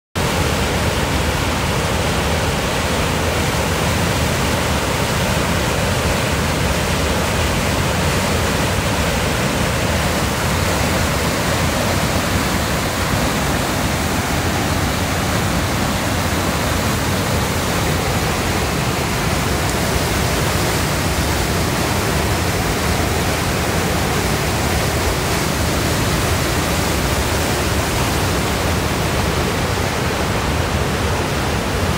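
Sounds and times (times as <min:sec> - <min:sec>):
river rapids rushing: 0:00.2 - 0:31.9.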